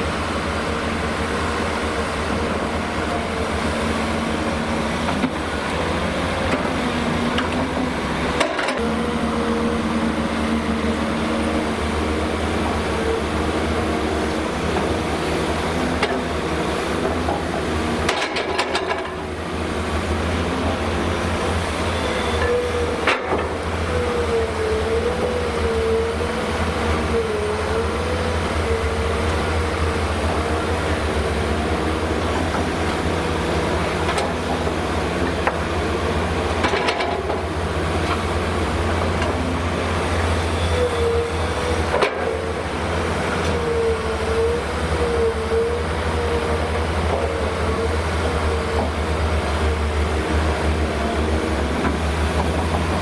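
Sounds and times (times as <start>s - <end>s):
excavator diesel hum: 0.0s - 53.0s.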